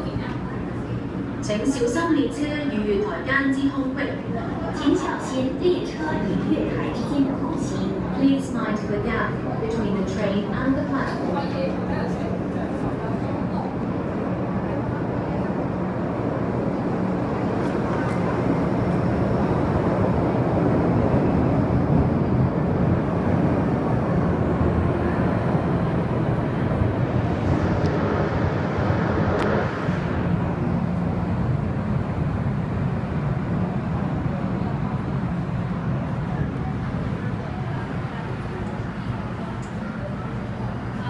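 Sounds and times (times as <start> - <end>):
train rumbling through tunnel: 0.0 - 41.0.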